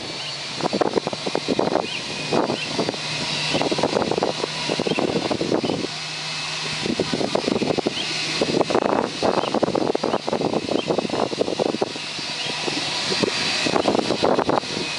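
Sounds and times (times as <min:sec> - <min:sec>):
airliner low hum and high whine: 0:00.0 - 0:14.9
wind buffeting microphone: 0:00.0 - 0:14.9.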